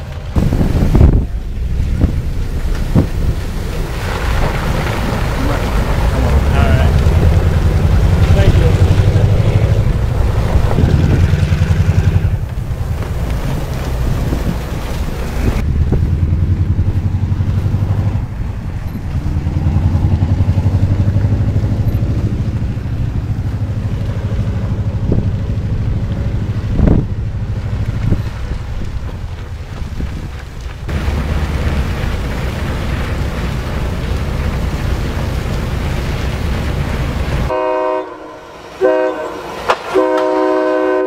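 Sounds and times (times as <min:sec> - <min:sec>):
wind on microphone: 0:00.0 - 0:34.0
diesel engine rumble: 0:00.0 - 0:41.0.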